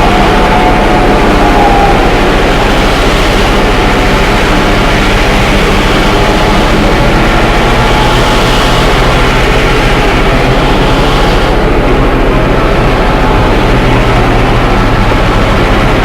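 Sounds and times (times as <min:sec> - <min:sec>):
low hum: 0:00.0 - 0:16.0
train rumble and hiss: 0:00.0 - 0:16.0.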